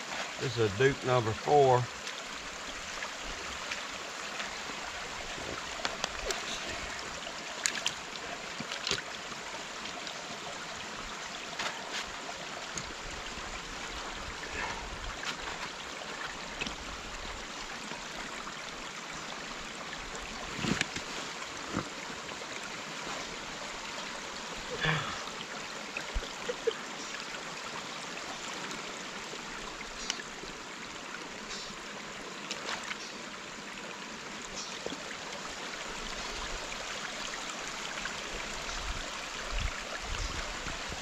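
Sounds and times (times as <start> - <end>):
running water: 0.0 - 41.0.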